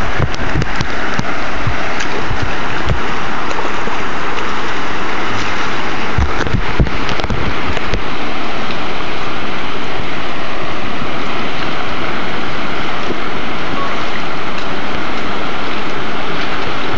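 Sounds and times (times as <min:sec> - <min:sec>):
whitewater river rapids rushing: 0:00.0 - 0:16.9.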